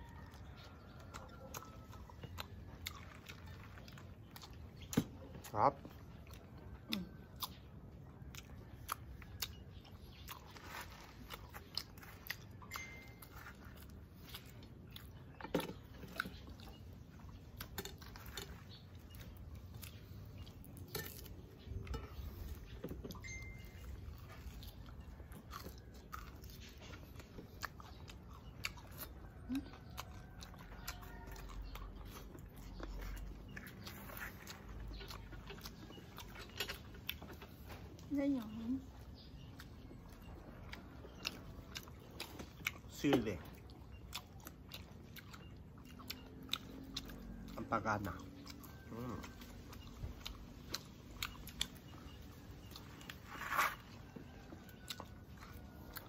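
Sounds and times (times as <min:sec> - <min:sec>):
person chewing and eating: 0:00.0 - 0:56.0.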